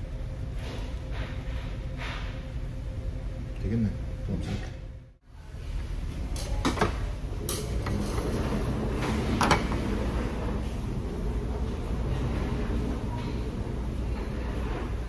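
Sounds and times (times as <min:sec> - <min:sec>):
low rumble of room noise: 0:00.0 - 0:15.0.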